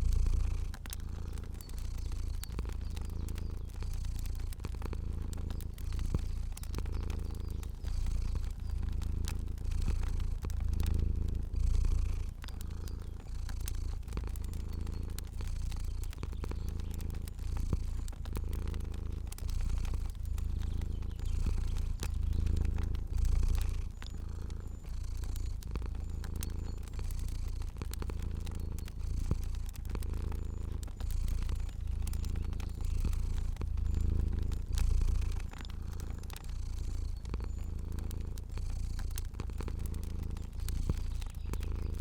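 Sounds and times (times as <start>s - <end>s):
cat purring: 0.0s - 42.0s
wood fire crackling: 0.0s - 42.0s.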